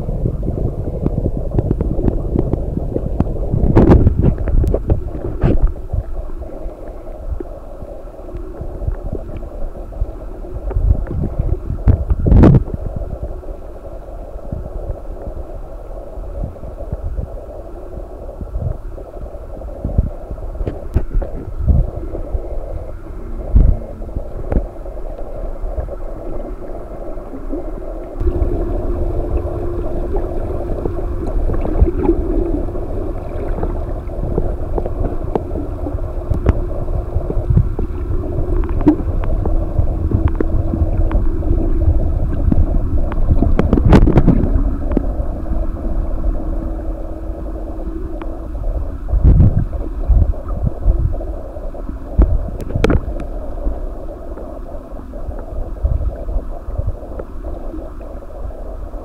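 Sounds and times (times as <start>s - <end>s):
rumble and rush of water: 0.0s - 59.0s
whale song underwater: 0.0s - 59.0s.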